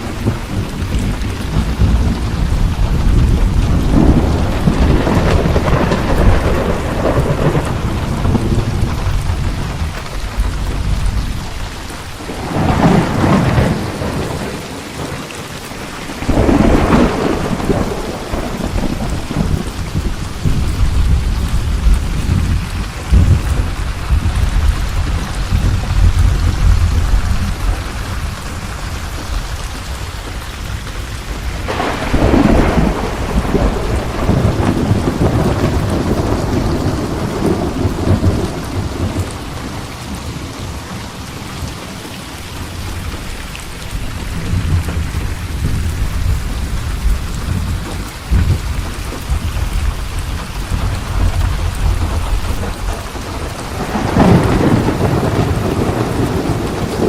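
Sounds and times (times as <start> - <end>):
sharp thunderclaps: 0.0 - 15.3, 16.0 - 29.5, 30.2 - 40.4, 44.1 - 57.0
heavy rain: 0.0 - 57.0
low rolling thunder: 0.0 - 57.0.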